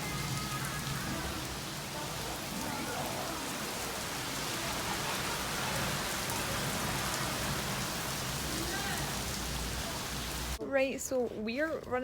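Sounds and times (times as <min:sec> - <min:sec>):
heavy rain pouring: 0:00.0 - 0:10.6.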